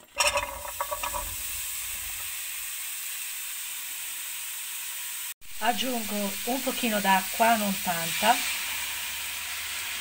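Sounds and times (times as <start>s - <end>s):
fruit sizzling in a frying pan: 0.0s - 10.0s.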